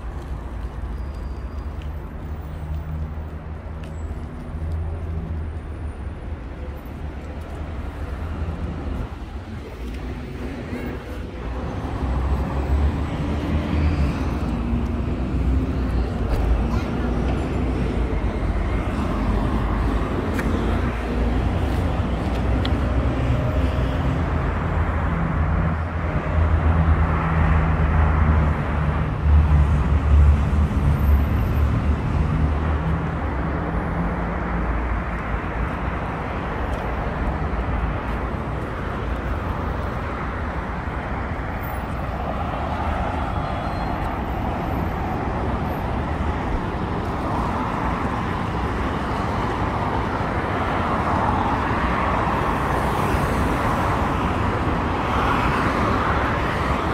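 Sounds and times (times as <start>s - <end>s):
cars passing: 0.0s - 56.9s
tyre noise on road: 0.0s - 56.9s.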